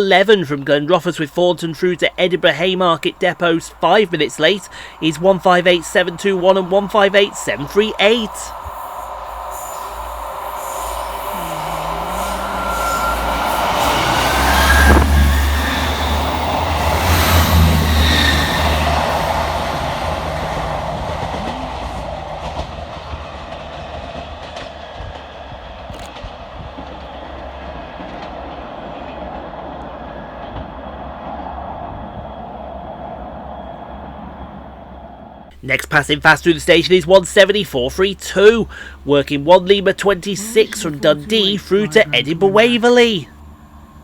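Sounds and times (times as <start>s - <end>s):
diesel train engines droning: 0.0s - 44.0s
train wheels on rails: 1.0s - 39.8s.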